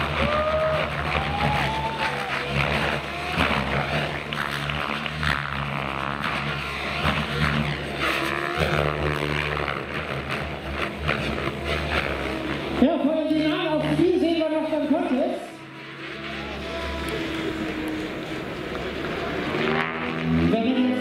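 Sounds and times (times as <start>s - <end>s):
model helicopter rotor buzzing: 0.0s - 21.0s.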